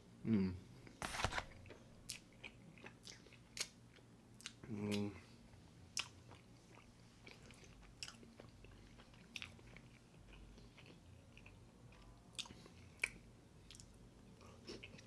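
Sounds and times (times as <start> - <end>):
person chewing food: 1.0 - 5.0, 5.9 - 15.0.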